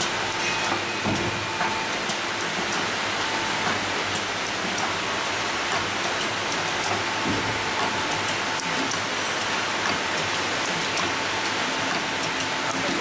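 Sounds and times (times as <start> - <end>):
machine clatter and hiss: 0.0 - 13.0.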